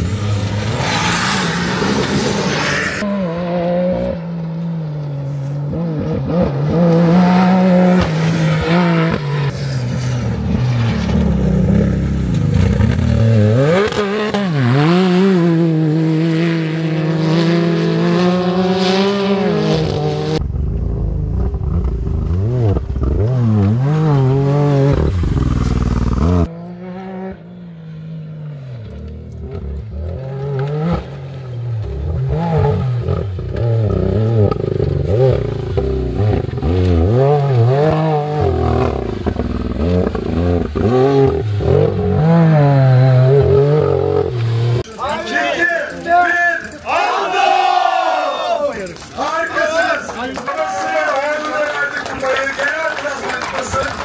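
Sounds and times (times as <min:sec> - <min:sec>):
race vehicle engines revving: 0:00.0 - 0:54.0.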